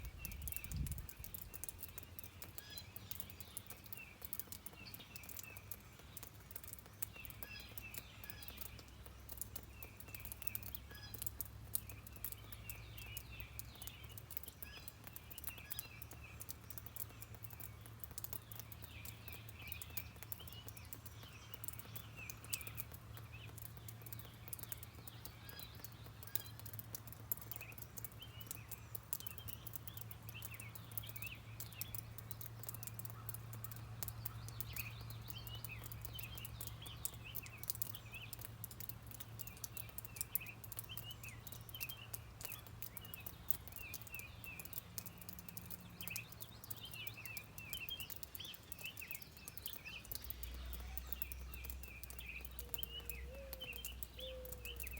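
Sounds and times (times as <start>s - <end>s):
birds chirping: 0.0s - 54.9s
rain pattering: 0.0s - 54.9s.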